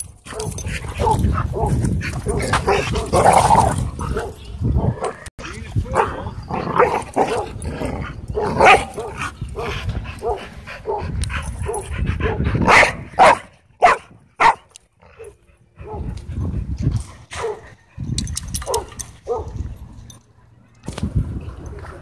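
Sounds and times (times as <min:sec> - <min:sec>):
dogs barking and yipping: 0:00.0 - 0:05.3, 0:05.9 - 0:16.5, 0:17.2 - 0:19.8.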